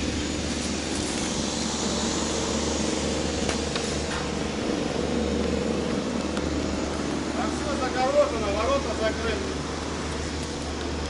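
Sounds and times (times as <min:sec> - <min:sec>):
bicycle tyres rolling on steel: 0:00.0 - 0:11.0
low hum: 0:00.0 - 0:11.0.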